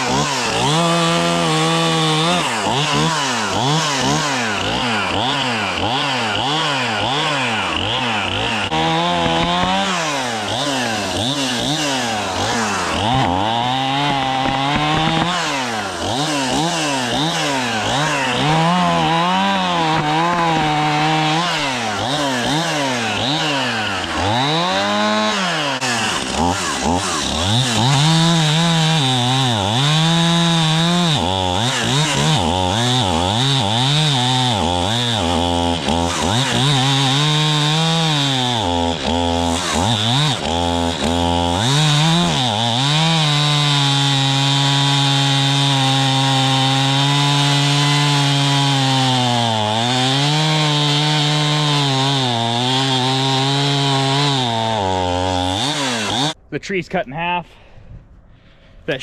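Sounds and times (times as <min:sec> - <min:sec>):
chainsaw cutting wood: 0:00.0 - 0:56.5.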